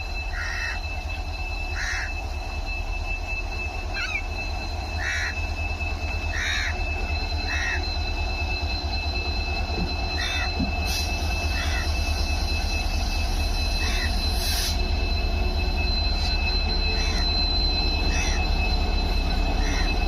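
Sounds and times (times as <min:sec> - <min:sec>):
diesel locomotive rumbling: 0:00.0 - 0:20.0
steady high whine: 0:00.0 - 0:20.0.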